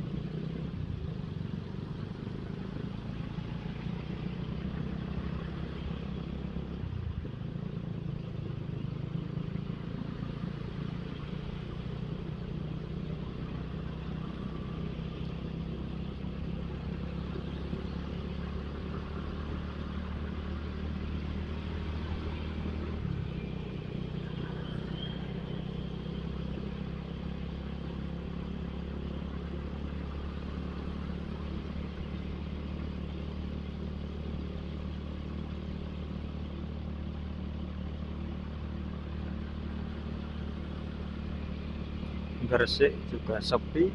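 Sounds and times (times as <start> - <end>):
road and wind noise: 0.0 - 43.9.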